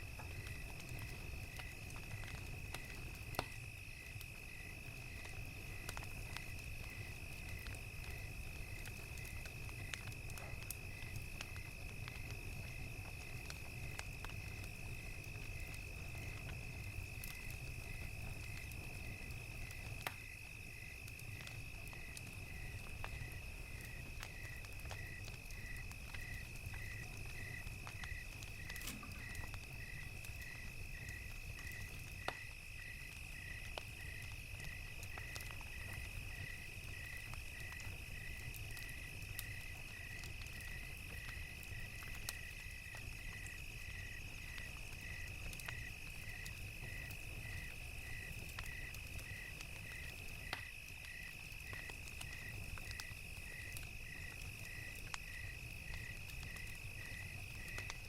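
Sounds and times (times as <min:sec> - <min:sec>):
crackling fire: 0:00.0 - 0:58.0
crickets chirping: 0:00.1 - 0:58.0.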